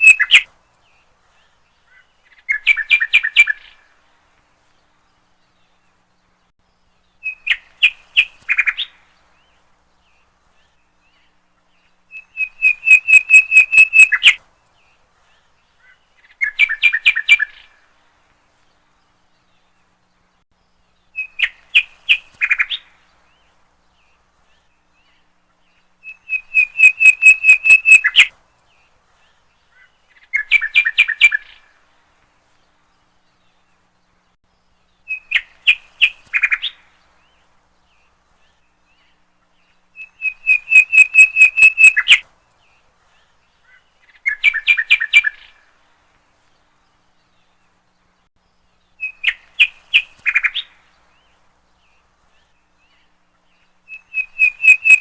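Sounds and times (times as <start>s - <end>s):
bird song rapid chirping: 0.0s - 4.0s, 4.9s - 17.9s, 18.8s - 31.8s, 32.7s - 45.7s, 46.6s - 55.0s.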